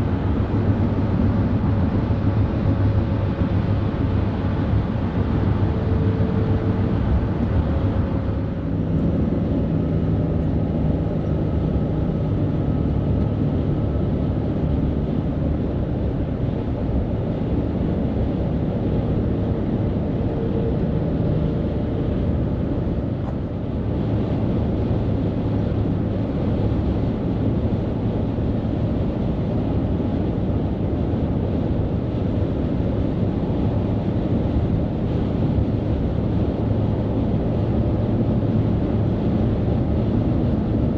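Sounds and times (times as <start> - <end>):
engine drone: 0.0 - 40.9
highway traffic rumble: 0.0 - 40.9.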